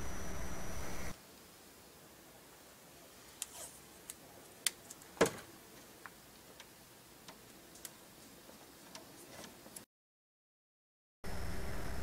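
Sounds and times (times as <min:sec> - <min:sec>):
faint steady hiss: 0:00.0 - 0:09.8.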